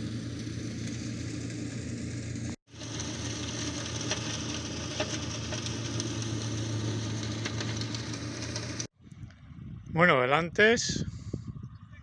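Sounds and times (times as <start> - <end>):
tractor engine hum: 0.0 - 9.8.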